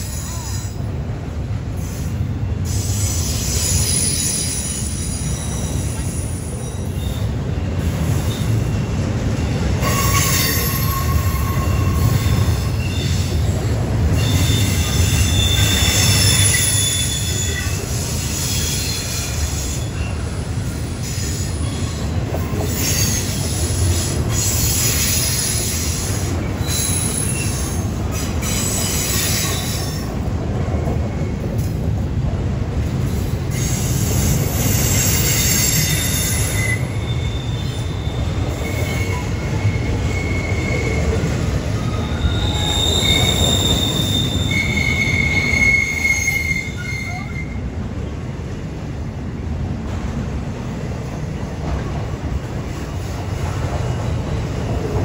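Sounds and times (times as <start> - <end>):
train wheels squealing: 0.0 - 0.9, 1.8 - 31.8, 33.1 - 47.8
train rumbling past: 0.0 - 55.0.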